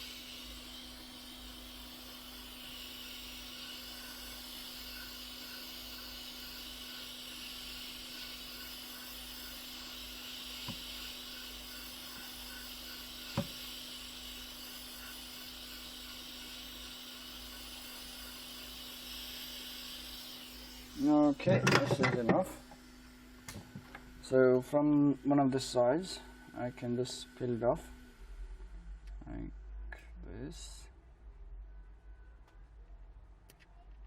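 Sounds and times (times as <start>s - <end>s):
hot air blower hissing: 0.0s - 28.6s.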